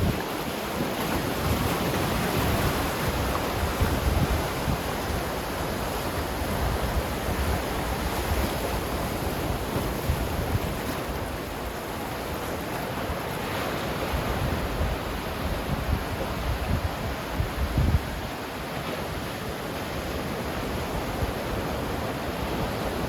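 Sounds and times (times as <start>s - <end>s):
wind rumble on microphone: 0.0s - 11.8s, 12.6s - 23.0s
ocean waves breaking: 0.0s - 23.0s.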